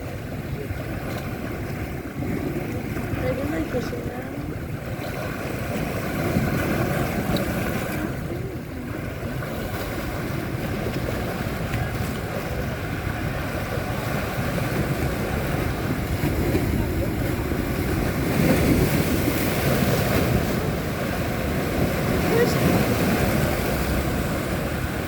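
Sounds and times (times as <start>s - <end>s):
sea water rushing: 0.0s - 25.0s
wind: 0.0s - 25.0s.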